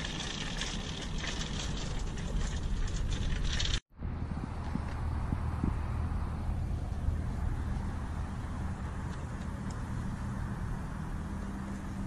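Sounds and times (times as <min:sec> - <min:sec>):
road traffic noise: 0:00.0 - 0:12.0
vehicle engine rumbling: 0:00.0 - 0:12.0.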